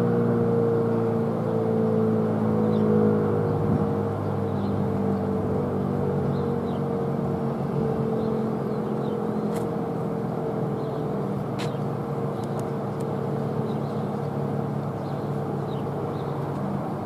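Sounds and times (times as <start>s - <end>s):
rotating warning siren: 0.0s - 17.0s.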